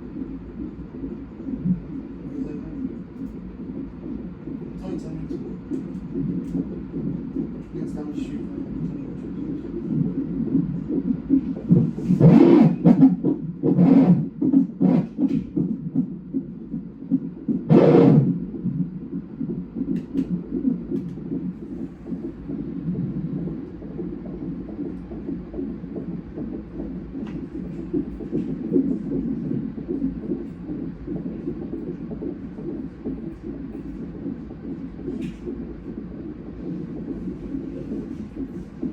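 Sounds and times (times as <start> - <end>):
doppler heartbeat whoosh: 0.0 - 38.9.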